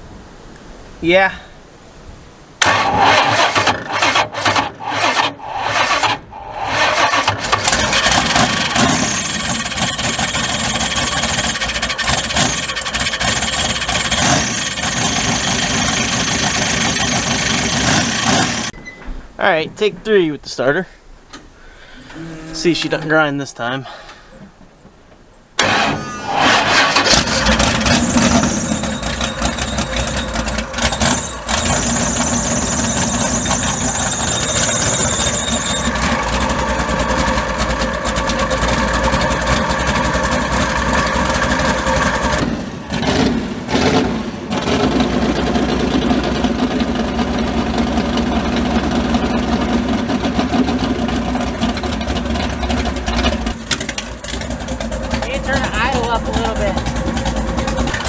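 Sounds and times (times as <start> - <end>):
truck engine running loudly: 2.6 - 18.8, 25.6 - 58.0
engine starter cranking: 2.6 - 19.0, 25.6 - 58.0.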